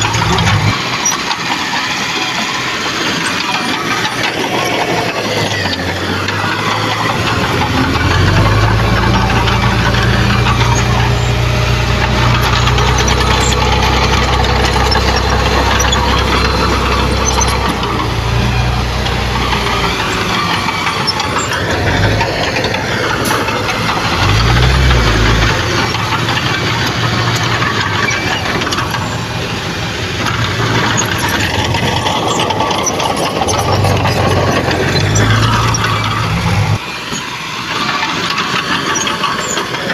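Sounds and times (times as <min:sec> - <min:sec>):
heavy diesel engine drone: 0:00.0 - 0:39.9
mechanical clatter: 0:00.0 - 0:39.9.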